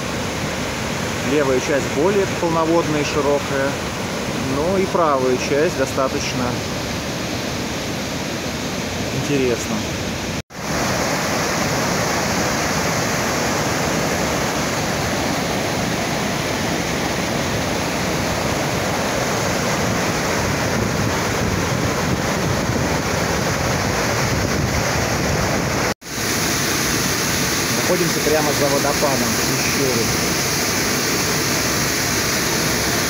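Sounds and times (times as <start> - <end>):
waterfall and white-water rushing: 0.0 - 33.0.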